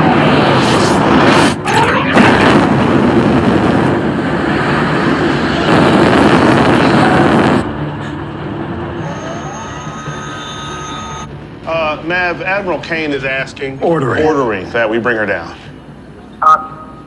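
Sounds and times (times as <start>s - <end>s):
quieter rumble: 0.0s - 13.7s
jet engine roaring: 0.0s - 17.0s.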